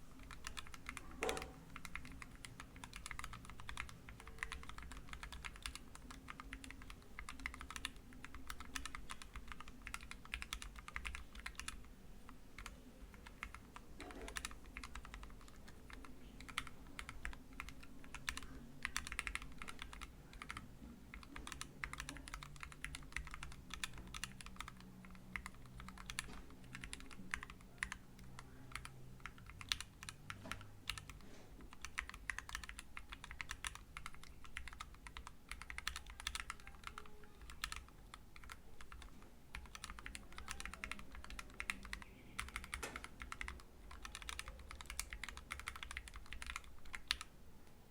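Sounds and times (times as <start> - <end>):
mechanical keyboard typing: 0.2 - 47.9.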